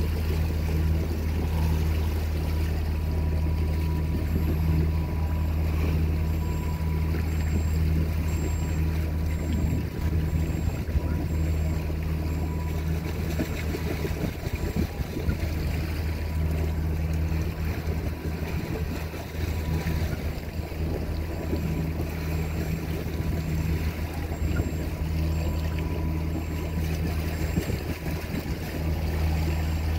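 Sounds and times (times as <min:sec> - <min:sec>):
boat engine droning: 0:00.0 - 0:29.9
water rushing past hull: 0:00.0 - 0:29.9.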